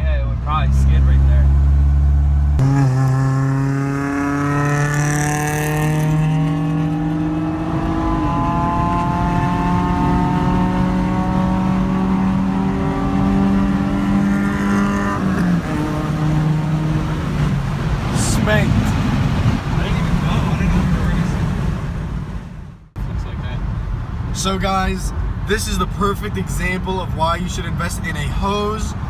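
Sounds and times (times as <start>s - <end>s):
car engine accelerating: 0.3s - 24.3s.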